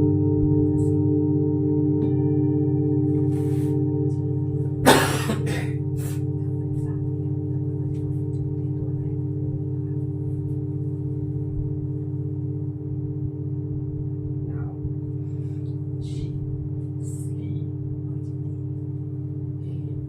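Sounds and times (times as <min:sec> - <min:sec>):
singing bowls ringing: 0:00.0 - 0:20.0.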